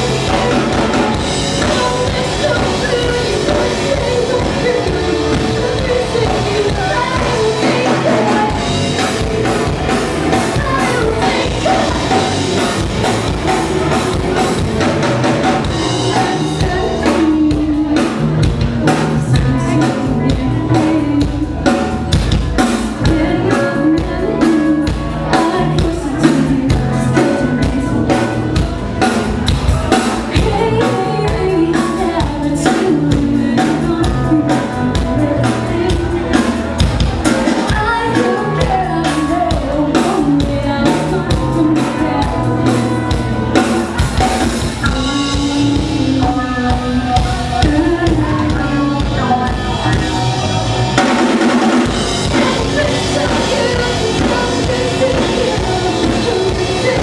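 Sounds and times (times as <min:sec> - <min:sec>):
live rock band: 0:00.0 - 0:57.0
person singing: 0:00.0 - 0:57.0
pounding drum kit: 0:00.0 - 0:57.0.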